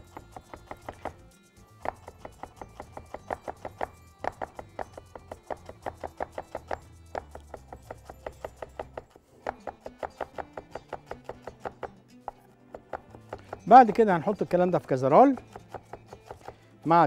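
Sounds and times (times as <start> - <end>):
knife chopping on cutting board: 0.0 - 1.2, 1.8 - 14.4, 15.1 - 16.6.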